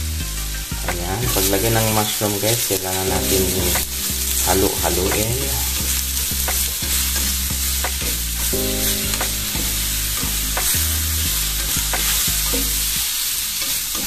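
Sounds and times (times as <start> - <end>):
mushrooms sizzling in oil: 0.0 - 14.0.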